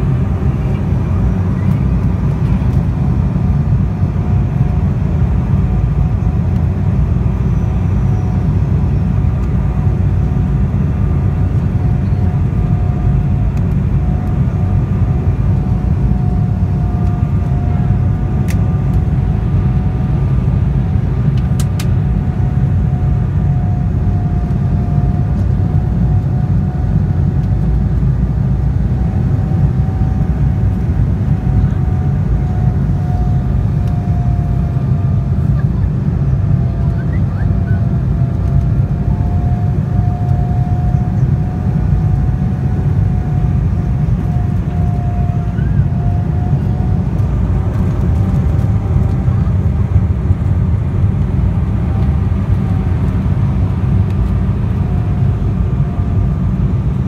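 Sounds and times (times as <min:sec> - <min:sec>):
jet cabin engine rumble: 0:00.0 - 0:57.0
steady whine: 0:00.0 - 0:57.0.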